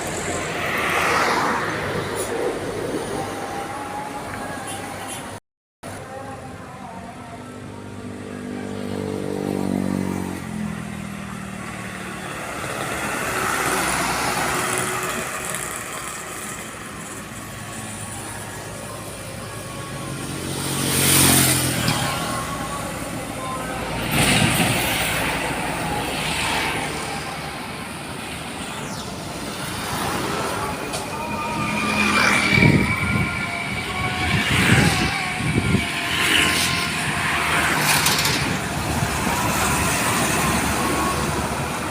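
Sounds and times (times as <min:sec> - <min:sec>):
heavy vehicles passing: 0:06.4 - 0:41.9.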